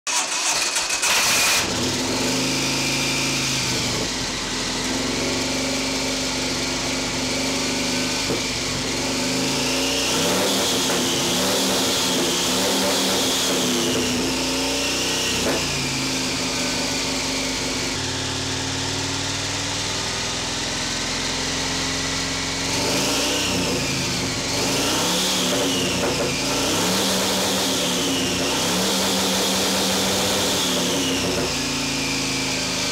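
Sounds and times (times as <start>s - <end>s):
motorcycle engine revving: 0.1s - 32.9s.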